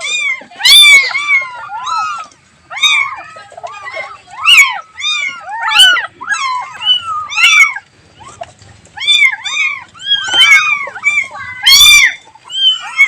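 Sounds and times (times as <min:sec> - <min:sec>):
cats meowing: 0:00.0 - 0:13.0.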